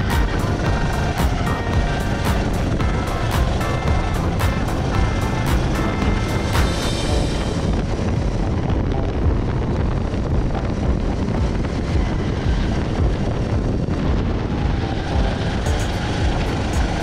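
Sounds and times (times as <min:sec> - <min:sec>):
go-kart engine running: 0:00.0 - 0:17.0
wind buffeting on microphone: 0:00.0 - 0:17.0.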